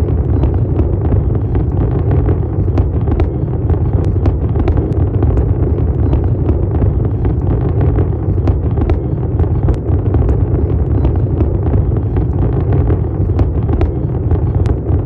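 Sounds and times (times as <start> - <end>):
fireworks booming rumble: 0.0 - 15.0
fireworks pops and crackles: 0.0 - 15.0.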